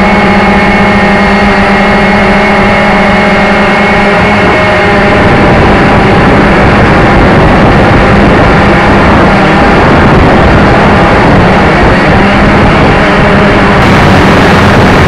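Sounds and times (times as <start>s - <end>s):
model aircraft motor droning: 0.0s - 15.0s
wind rushing over microphone: 0.0s - 15.0s.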